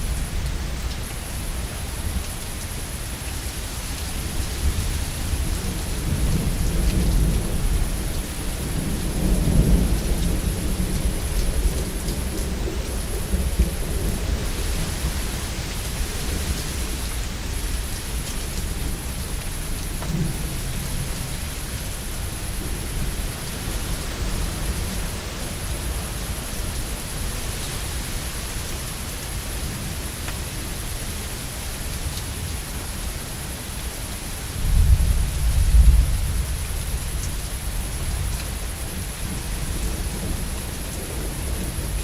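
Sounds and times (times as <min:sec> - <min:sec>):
low rumble of thunder: 0:00.0 - 0:32.6, 0:34.4 - 0:42.0
steady rain: 0:00.0 - 0:42.0.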